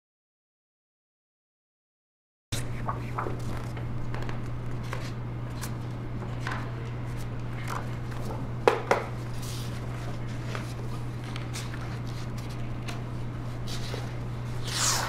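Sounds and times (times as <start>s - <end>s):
steady low hum: 2.6s - 15.0s.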